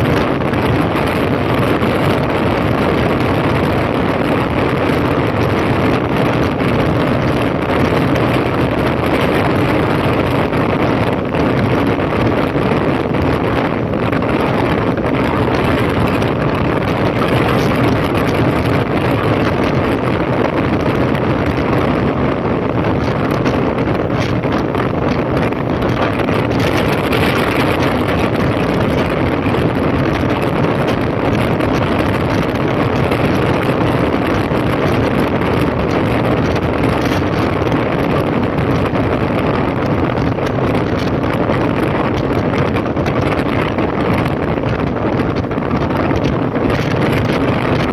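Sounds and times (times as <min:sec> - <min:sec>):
wind rush over microphone: 0:00.0 - 0:47.9.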